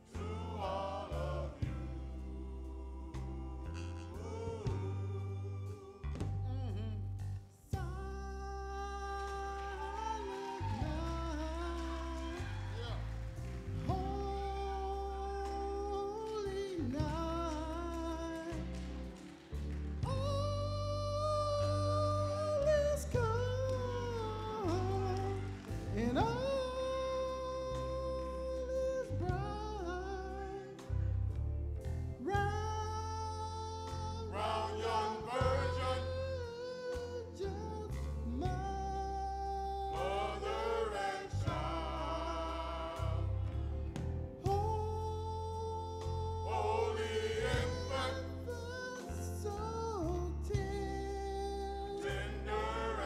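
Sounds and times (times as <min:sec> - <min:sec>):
person singing a christmas song: 0:00.0 - 0:31.4, 0:32.2 - 0:53.0.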